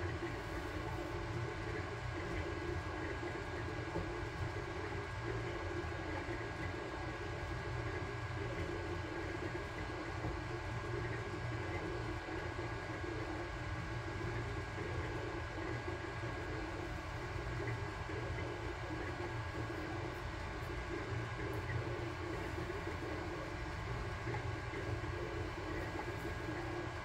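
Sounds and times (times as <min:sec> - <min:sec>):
cooling fans humming: 0:00.0 - 0:27.0.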